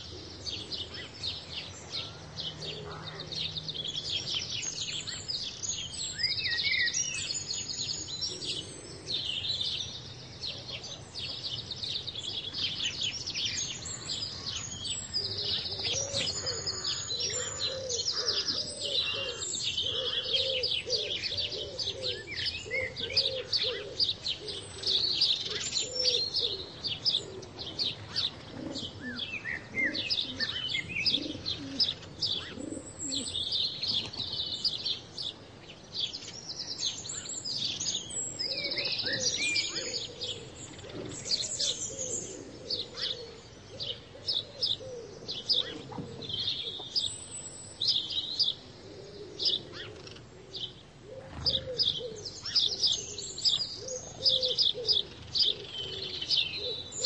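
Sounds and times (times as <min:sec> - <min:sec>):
low slow repeated bird call: 0:00.0 - 0:57.0
songbirds chirping and singing: 0:00.0 - 0:57.0.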